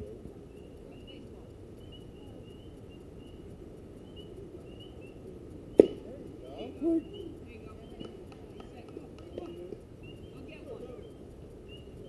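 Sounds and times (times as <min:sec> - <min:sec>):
faint high chirps: 0:00.0 - 0:12.0
murmur of distant voices: 0:00.0 - 0:12.0
steady background noise: 0:00.0 - 0:12.0.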